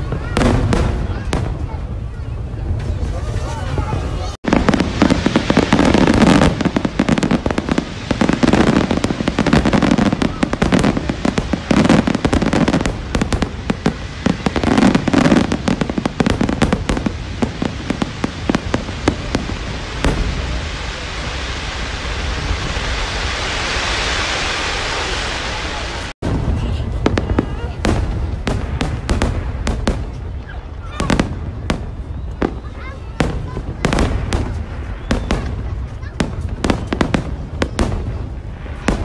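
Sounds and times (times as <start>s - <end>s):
voices: 0.0s - 22.8s, 24.8s - 39.0s
fireworks bangs and crackles: 0.0s - 39.0s
steady hiss: 4.5s - 39.0s.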